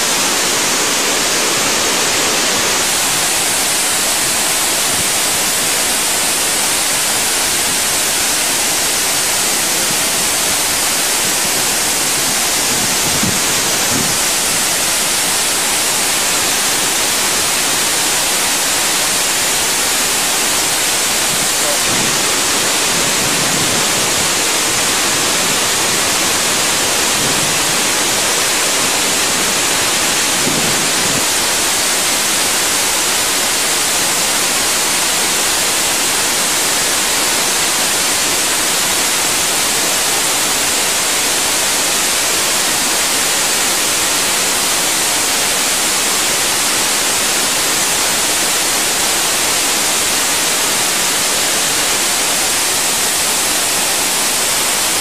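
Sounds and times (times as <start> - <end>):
rushing water roar: 0.0 - 55.0.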